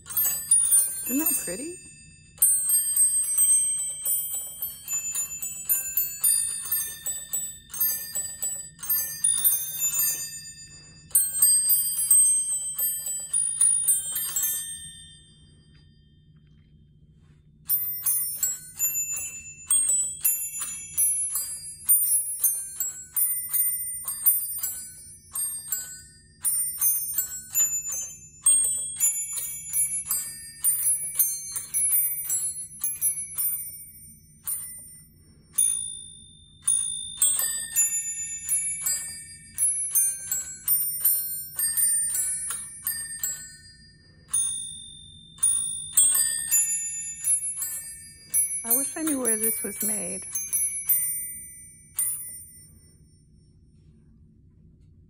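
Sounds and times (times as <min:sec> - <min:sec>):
small brass bells playing a melody: 0:00.0 - 0:15.4, 0:17.7 - 0:52.7
low steady hum: 0:00.0 - 0:55.0.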